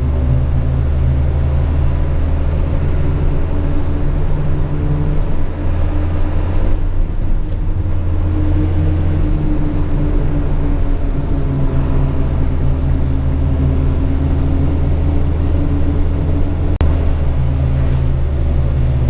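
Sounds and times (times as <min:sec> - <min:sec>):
road noise: 0:00.0 - 0:19.0
truck diesel engine drone: 0:00.0 - 0:19.0.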